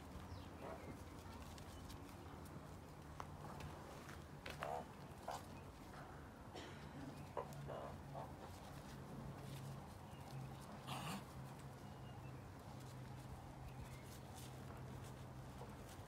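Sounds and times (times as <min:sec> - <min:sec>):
animals scuffling on sand: 0:00.0 - 0:06.4, 0:07.1 - 0:16.0.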